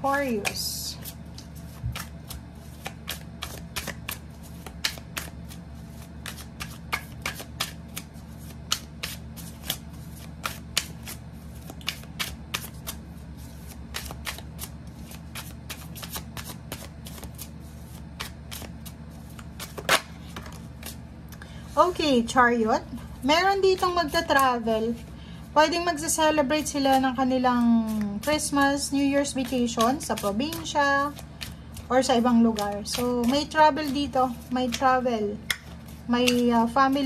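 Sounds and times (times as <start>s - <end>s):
cards being shuffled: 0.2s - 21.0s, 26.6s - 37.0s.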